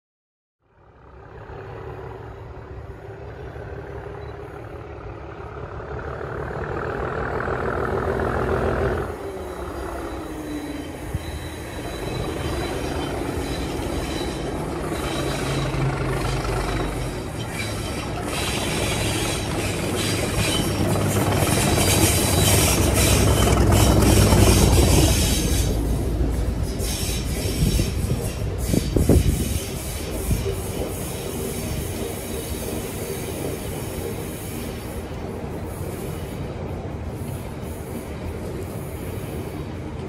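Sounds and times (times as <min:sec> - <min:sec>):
diesel locomotive engine: 0:00.6 - 0:40.0.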